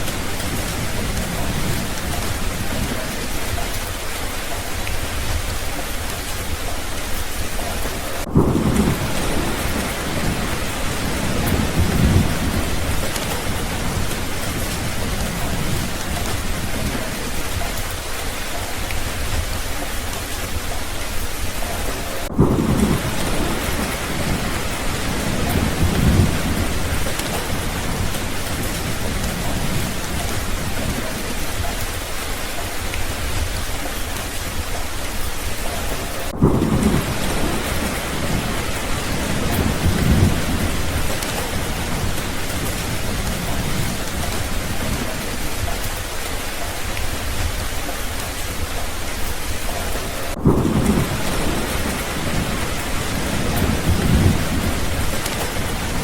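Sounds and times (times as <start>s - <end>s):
heavy rain: 0.0s - 56.0s
low thunder rumbling: 0.0s - 56.0s.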